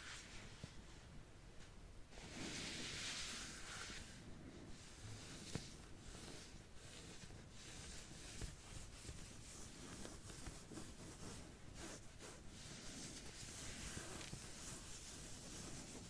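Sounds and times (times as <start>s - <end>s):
soft scratching strokes: 0.0s - 16.0s.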